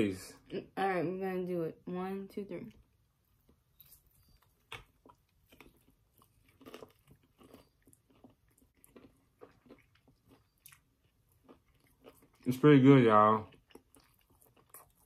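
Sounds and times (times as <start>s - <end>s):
people chewing fried chicken: 2.8s - 15.0s.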